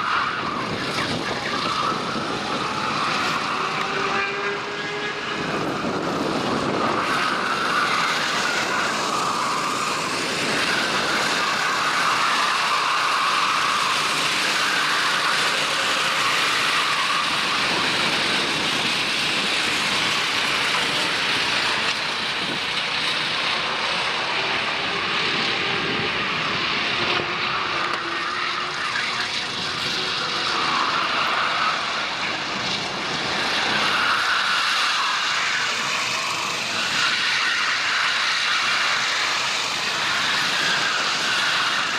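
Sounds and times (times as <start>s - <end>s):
go-kart engines racing: 0.0s - 41.9s.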